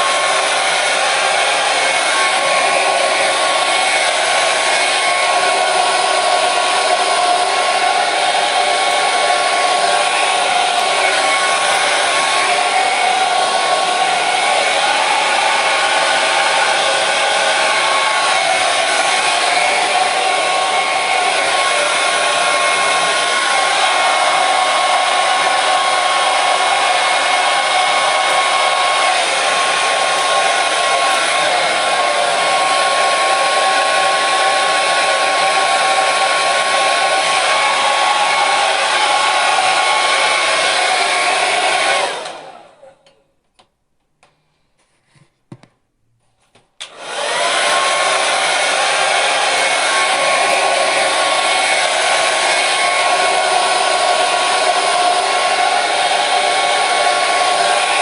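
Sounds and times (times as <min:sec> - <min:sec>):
hair dryer running: 0:00.0 - 0:43.2, 0:46.8 - 0:58.0.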